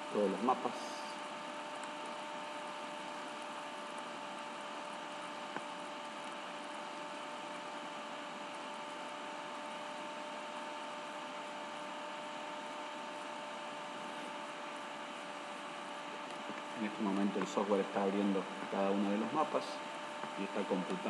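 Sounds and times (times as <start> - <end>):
two-note electrical hum: 0.0 - 21.0.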